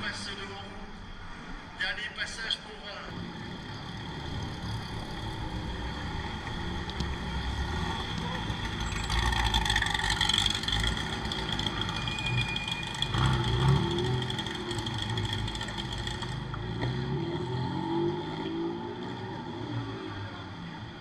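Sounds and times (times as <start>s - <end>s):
car engine rumbling at low speed: 2.4s - 21.0s.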